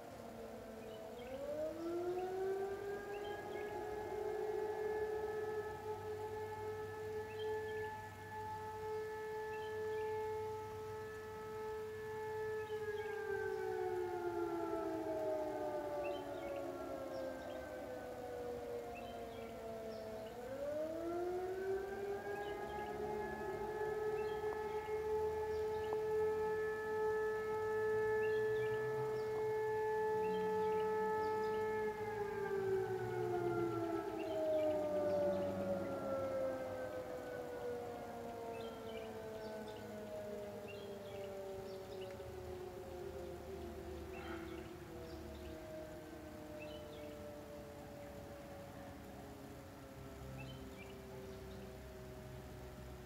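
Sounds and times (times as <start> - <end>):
distant two-tone siren wail: 0.0 - 53.0.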